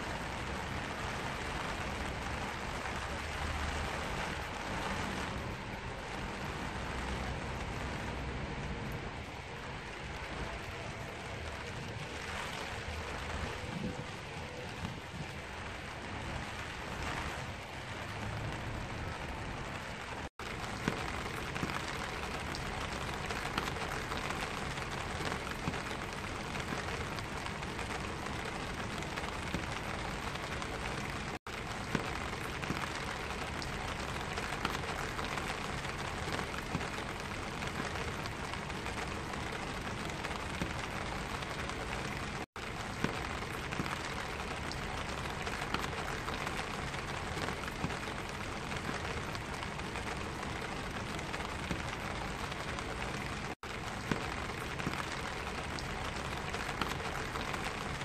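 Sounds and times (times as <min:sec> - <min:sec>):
rain on an umbrella: 0:00.0 - 0:58.0.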